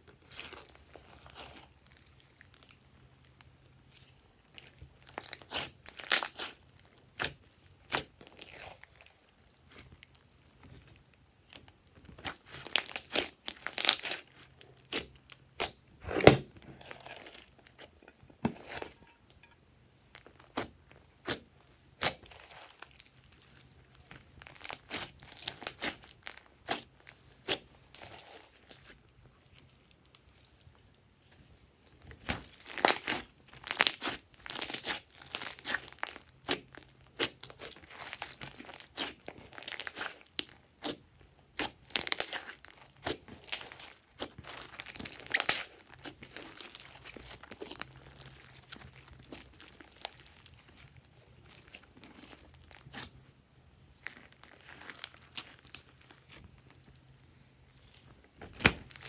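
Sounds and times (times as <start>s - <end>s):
slime crackling and popping: 0.0s - 31.0s, 31.8s - 59.0s.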